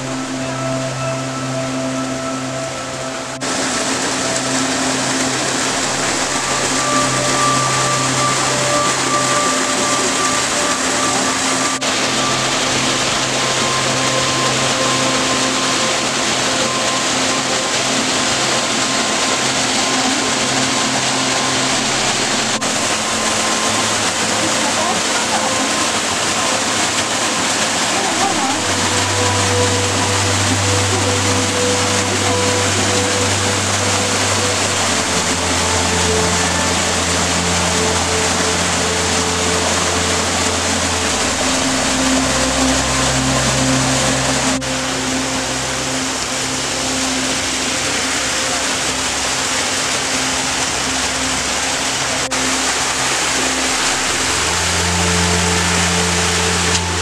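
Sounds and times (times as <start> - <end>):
soft background music: 0.0 - 57.0
waterfall pouring into pool: 0.0 - 57.0.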